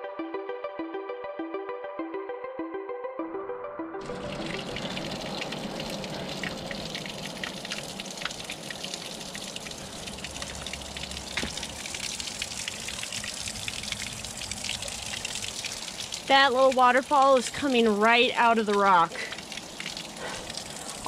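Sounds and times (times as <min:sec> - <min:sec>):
water pouring and splashing on rocks: 0:04.0 - 0:21.0.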